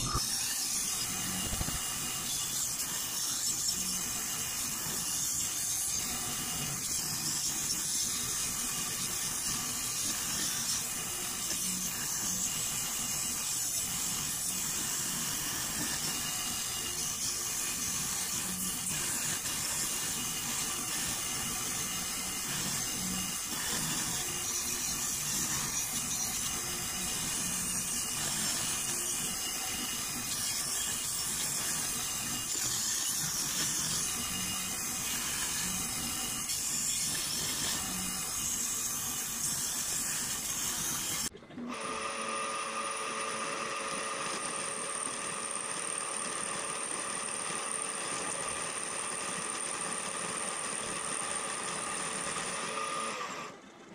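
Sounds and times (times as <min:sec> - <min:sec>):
machine high whine: 0:00.0 - 0:53.6
power tools cutting metal: 0:00.0 - 0:53.6.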